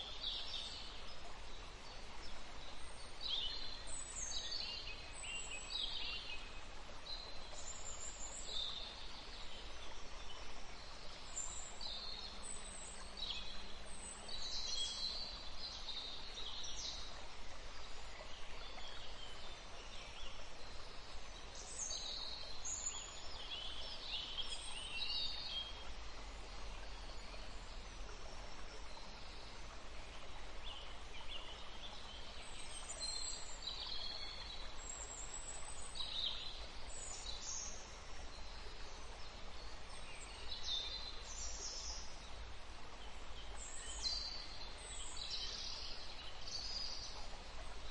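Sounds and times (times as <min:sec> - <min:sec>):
soft steady hiss: 0:00.0 - 0:47.9.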